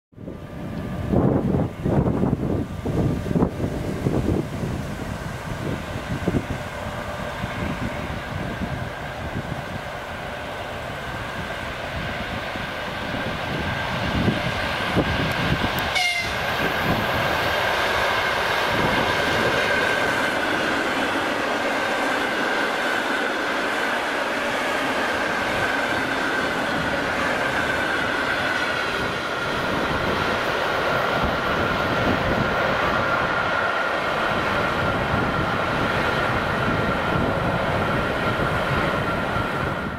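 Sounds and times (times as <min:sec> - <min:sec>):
train running past: 0:00.2 - 0:39.9.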